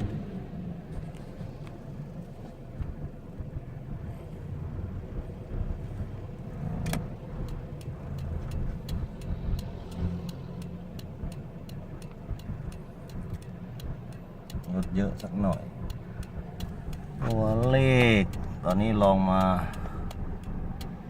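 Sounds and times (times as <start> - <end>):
light ticking: 0.0 - 21.0
vehicle cabin rumble: 0.0 - 21.0.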